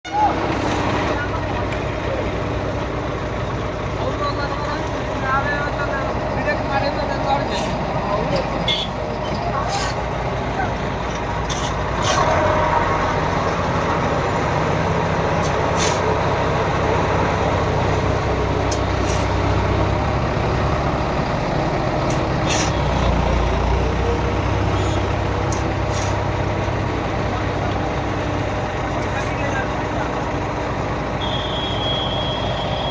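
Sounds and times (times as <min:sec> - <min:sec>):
heavy machinery engine droning: 0:00.1 - 0:32.9.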